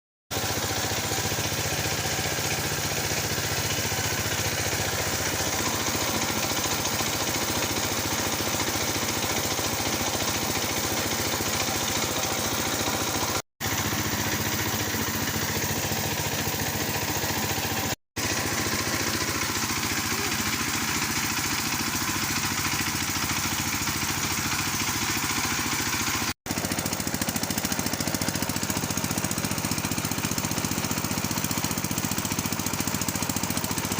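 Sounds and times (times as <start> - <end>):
engine-driven machine running: 0.3 - 33.9.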